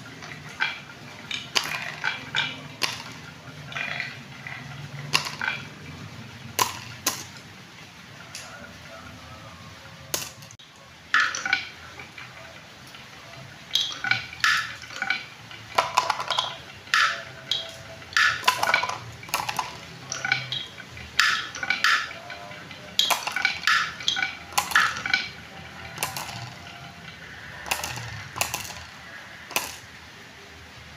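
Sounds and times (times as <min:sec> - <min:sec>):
marbles clicking on wooden run: 0:00.0 - 0:07.6, 0:09.9 - 0:30.0.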